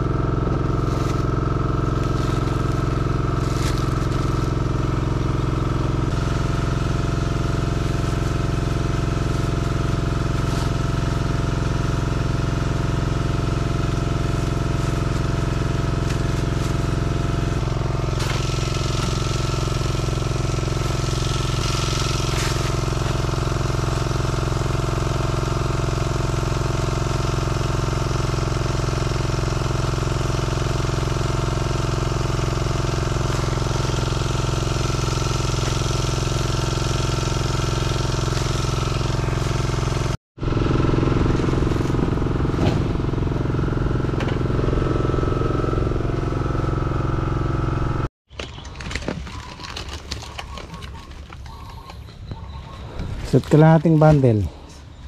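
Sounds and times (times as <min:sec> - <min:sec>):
small engine running: 0:00.0 - 0:48.1.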